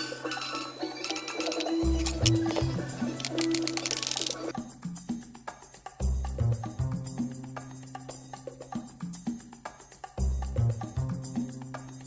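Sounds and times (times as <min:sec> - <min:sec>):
percussive background music: 0:00.0 - 0:12.0.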